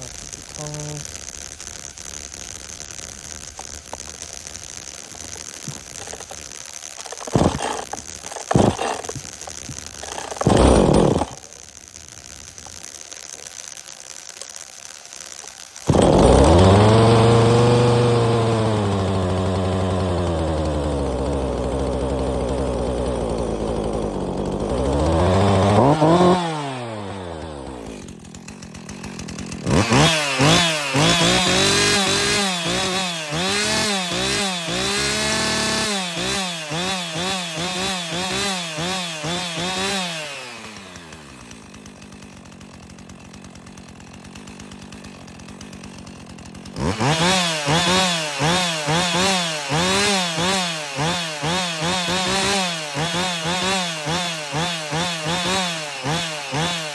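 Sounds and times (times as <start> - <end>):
chainsaw engine revving: 0.0 - 13.0, 15.8 - 56.9.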